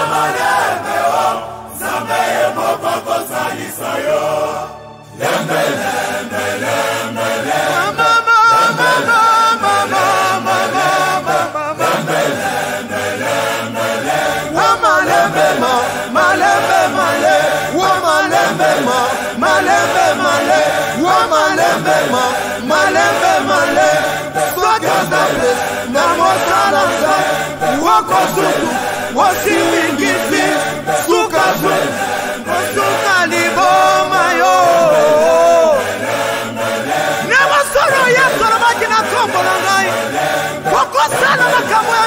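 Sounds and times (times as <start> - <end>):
group singing gospel in harmony: 0.0 - 42.0.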